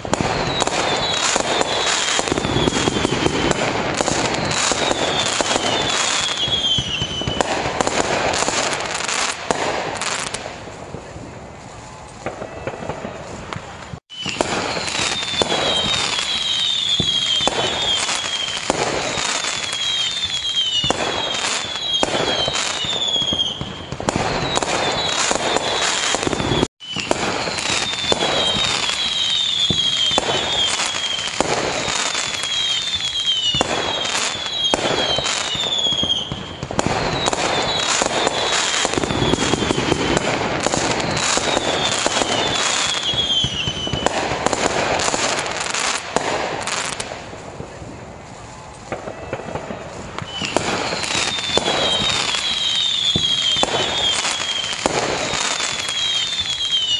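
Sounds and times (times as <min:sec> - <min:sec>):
fireworks banging: 0:00.0 - 0:56.9
fireworks whistling: 0:00.0 - 0:56.9.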